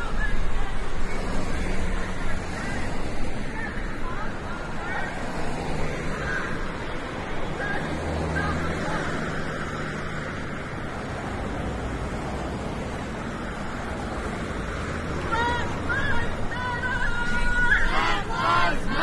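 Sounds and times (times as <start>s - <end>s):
faint voices: 0.0s - 11.1s, 13.2s - 19.0s
steady rushing background noise: 0.0s - 19.0s.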